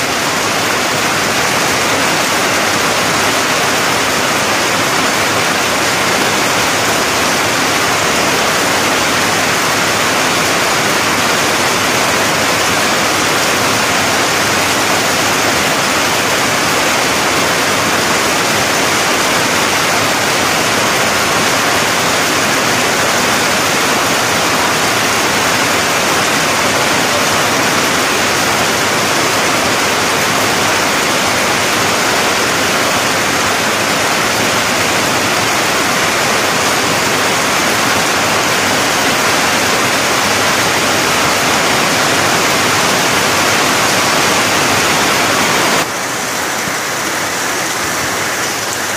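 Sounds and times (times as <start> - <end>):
heavy rain falling: 0.0 - 48.9
runoff pouring off a roof: 0.0 - 48.9.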